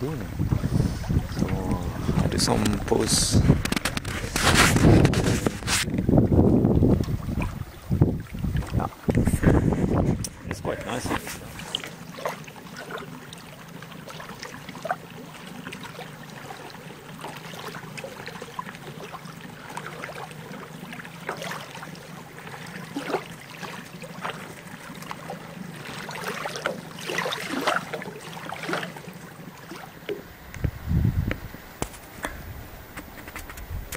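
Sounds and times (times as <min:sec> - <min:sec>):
lake waves lapping on shore: 0:00.0 - 0:33.9.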